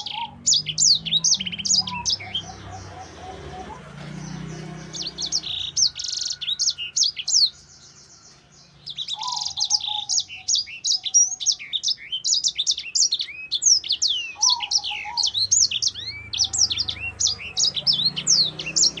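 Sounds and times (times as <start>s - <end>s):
finch singing: 0.0s - 19.0s.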